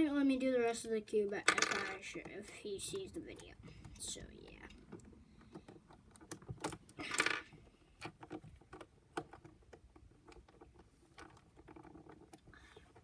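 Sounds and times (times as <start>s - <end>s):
plastic clatter: 1.3s - 13.0s.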